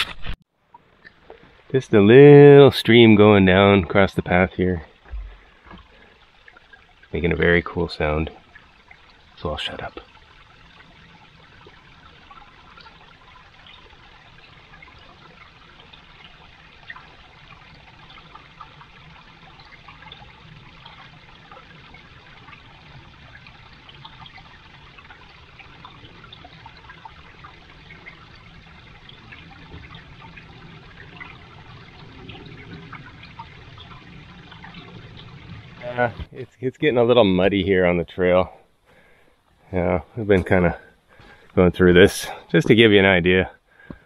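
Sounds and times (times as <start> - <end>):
stream trickling over rocks: 0.0 - 44.0.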